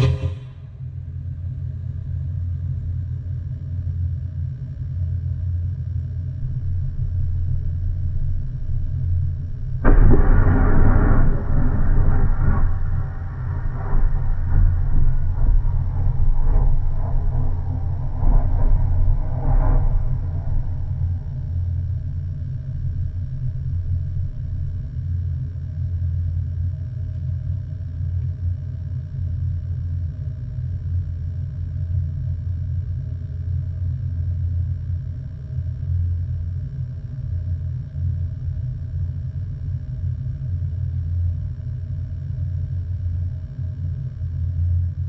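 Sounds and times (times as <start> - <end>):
deep rumbling drone: 0.0 - 45.0.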